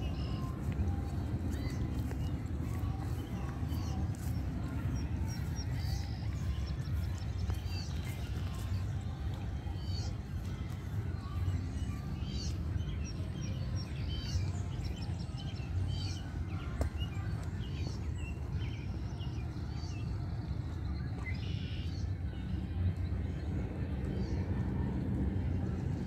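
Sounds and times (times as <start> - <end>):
small birds chirping: 0.0 - 22.2
steady low rumble: 0.0 - 26.0.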